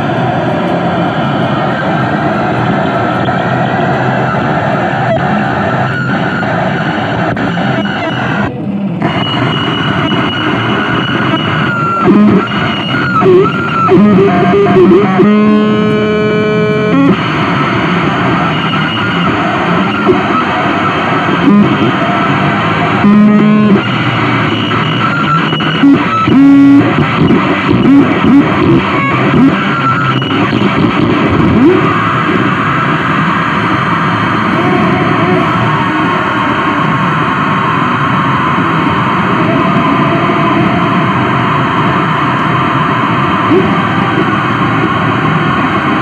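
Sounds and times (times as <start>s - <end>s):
harsh distorted noise music: 0.0s - 46.0s
held buzzing tone: 1.2s - 46.0s.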